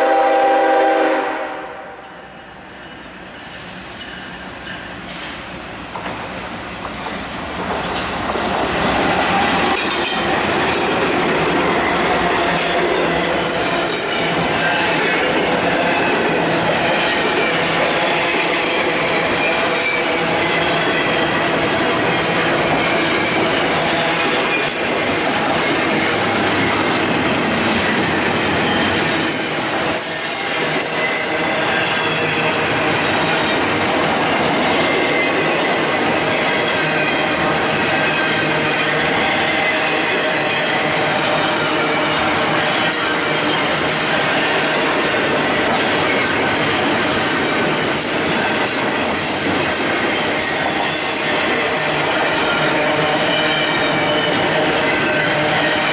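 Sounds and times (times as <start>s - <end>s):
diesel locomotive engine: 0.0s - 55.9s
freight train rolling past: 0.0s - 55.9s
steel wheels on rails: 2.7s - 55.9s.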